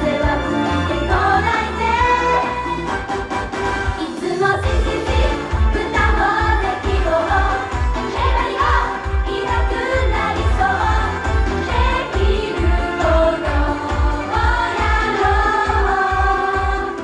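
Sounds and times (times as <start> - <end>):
girls singing pop song: 0.0 - 17.0.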